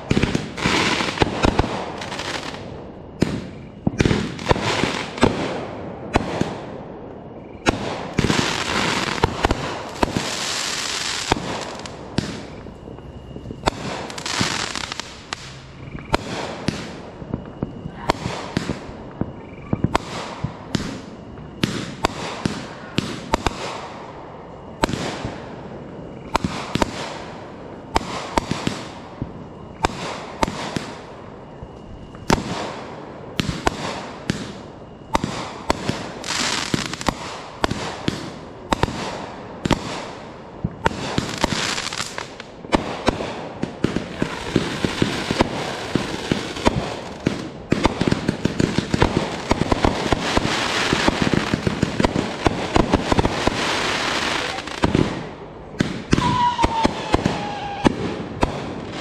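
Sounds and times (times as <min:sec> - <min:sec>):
crackling hissing sparkle: 0:00.0 - 0:59.0
fireworks bangs: 0:00.0 - 0:59.0.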